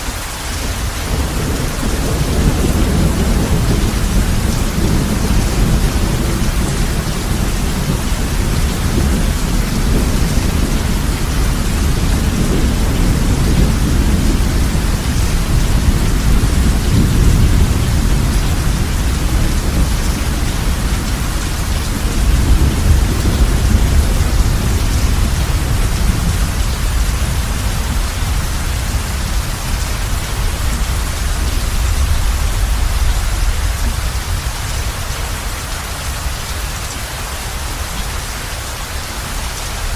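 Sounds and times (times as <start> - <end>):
heavy rain on a roof: 0.0 - 39.9
rolling thunder rumble: 0.5 - 38.0.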